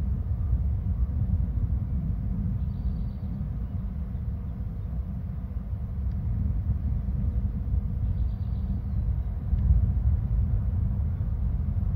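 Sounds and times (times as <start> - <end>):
low rumble: 0.0 - 11.9.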